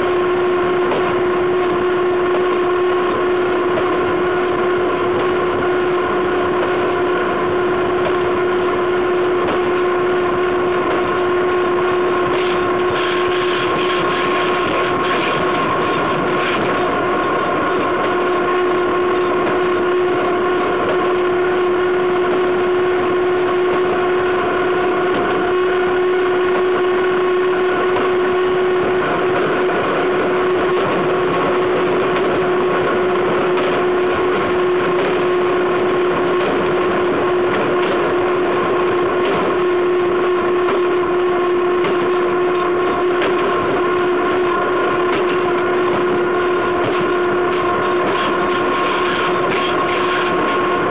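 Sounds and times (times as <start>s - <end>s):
constant pitched tone: 0.0s - 50.9s
train wheels rolling on rails: 9.4s - 50.9s.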